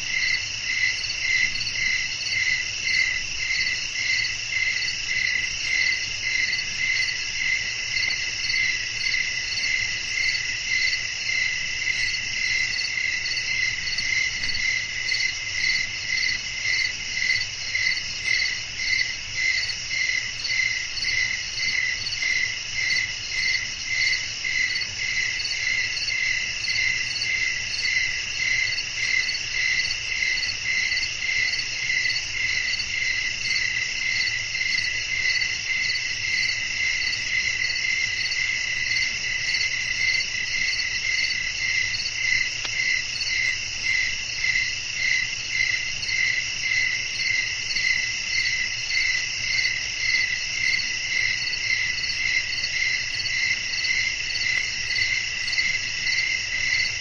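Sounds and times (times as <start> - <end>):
crickets trilling: 0.0 - 57.0
rhythmic cricket chirping: 0.1 - 57.0.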